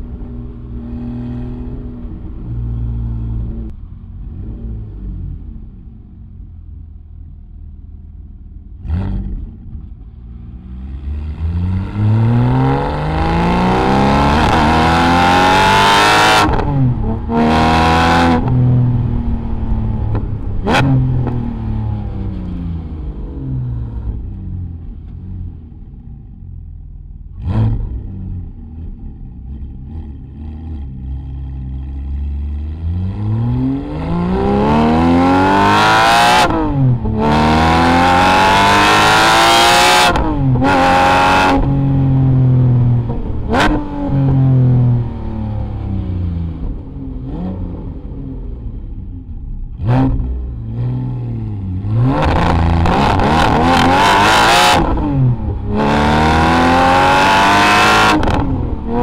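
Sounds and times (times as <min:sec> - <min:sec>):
car engine accelerating with upshifts: 0:00.0 - 0:07.4, 0:08.7 - 0:59.0.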